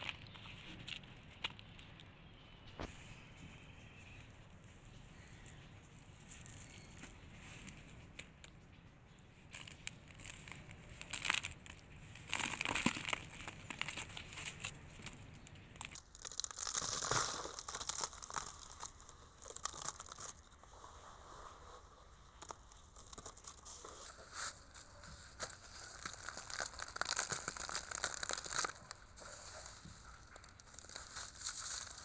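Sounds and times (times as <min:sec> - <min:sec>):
dry earth crumbled by hand: 0:00.0 - 0:32.0.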